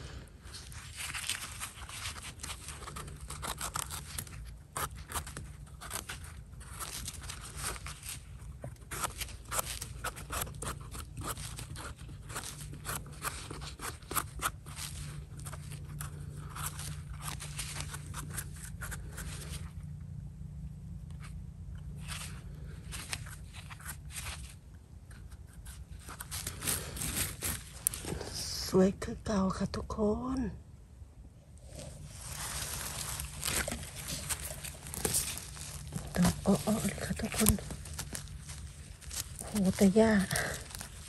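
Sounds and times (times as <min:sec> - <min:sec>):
knife and brush scraping soil: 0:00.0 - 0:20.1, 0:21.1 - 0:30.0, 0:31.6 - 0:41.0.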